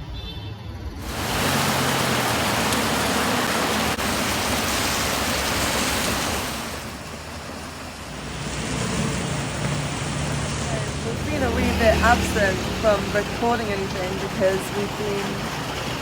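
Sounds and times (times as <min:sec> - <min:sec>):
heavy rain falling: 0:01.0 - 0:16.0.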